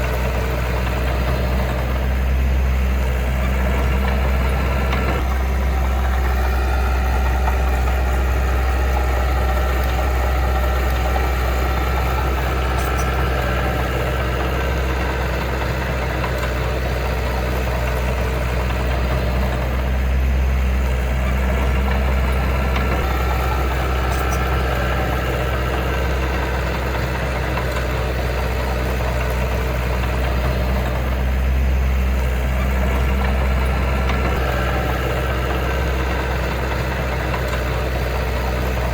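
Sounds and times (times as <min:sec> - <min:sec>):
heavy machine diesel engine: 0:00.0 - 0:38.9.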